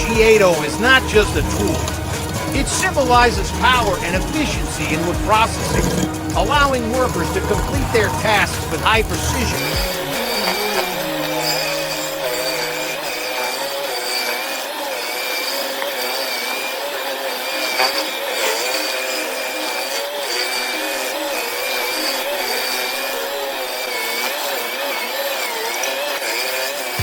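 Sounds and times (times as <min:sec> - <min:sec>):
stump grinder engine under load: 0:00.0 - 0:27.0.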